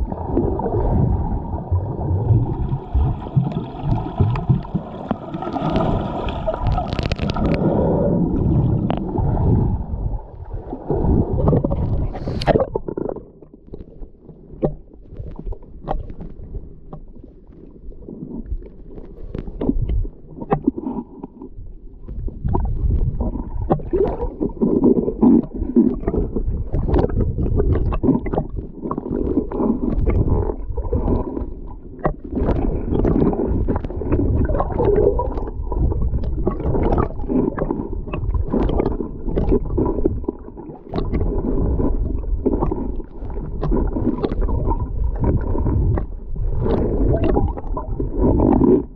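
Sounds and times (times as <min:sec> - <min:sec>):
muffled underwater bubbling: 0:00.0 - 0:48.9.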